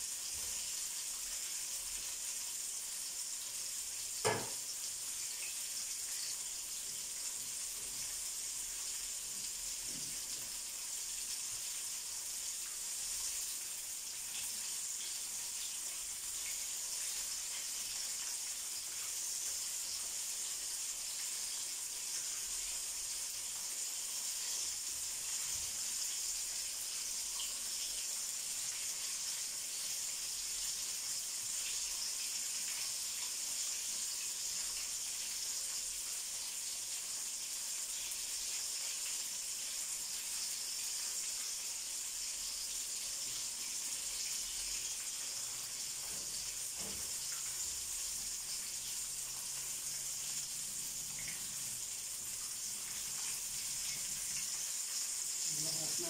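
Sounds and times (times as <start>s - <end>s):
hot oil sizzling: 0.0s - 56.0s.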